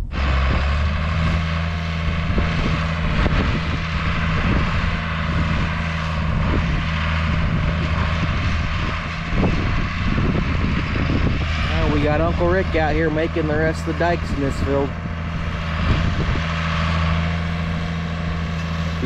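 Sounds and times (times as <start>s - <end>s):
tractor engine drone: 0.0s - 19.0s.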